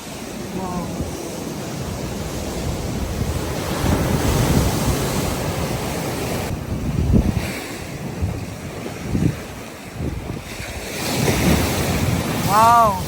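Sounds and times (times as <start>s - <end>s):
sea waves breaking: 0.0s - 13.0s
wind buffeting microphone: 0.0s - 13.0s.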